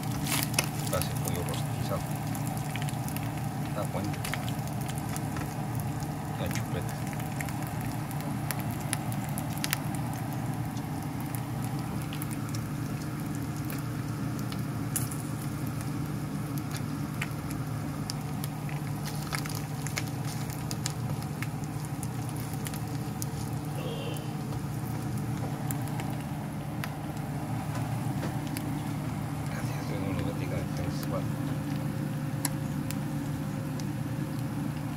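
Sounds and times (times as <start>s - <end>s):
chicken frying in a pan: 0.0s - 34.9s
low hum: 0.0s - 34.9s.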